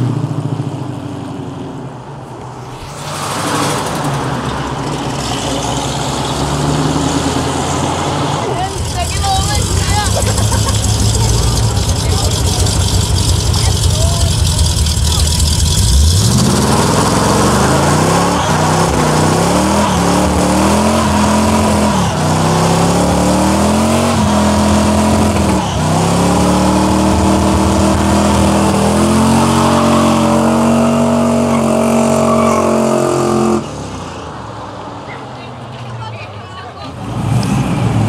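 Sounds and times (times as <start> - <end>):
car engine revving hard: 2.6 - 33.7, 37.0 - 38.0.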